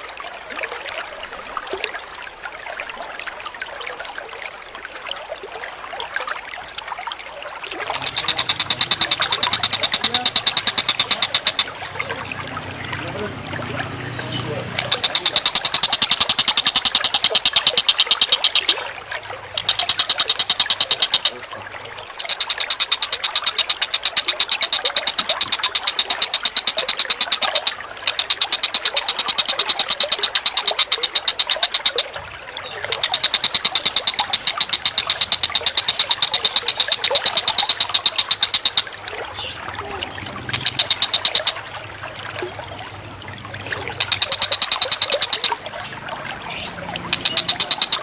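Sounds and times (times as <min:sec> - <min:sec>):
running water: 0:00.0 - 0:48.0
bird ticking rattle: 0:07.7 - 0:13.3, 0:14.0 - 0:48.0.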